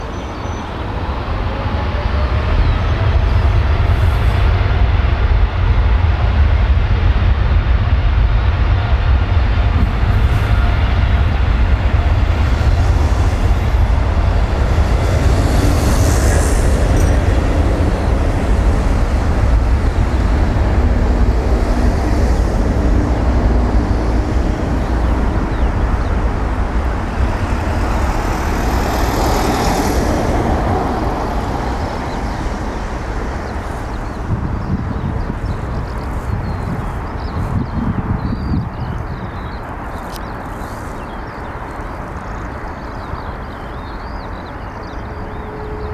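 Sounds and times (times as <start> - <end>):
low engine rumble: 0.0 - 39.8.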